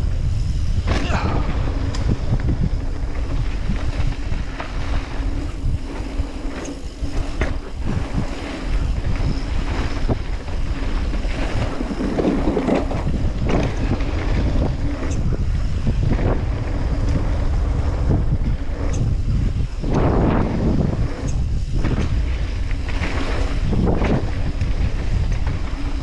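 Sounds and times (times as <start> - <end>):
tyres rumbling on dirt: 0.0 - 26.0
wind buffeting microphone: 0.0 - 26.0.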